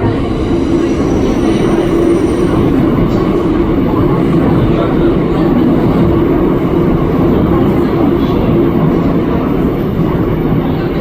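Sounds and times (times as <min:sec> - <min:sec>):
train hum: 0:00.0 - 0:10.9
train wheels rumbling on rail: 0:00.0 - 0:11.0.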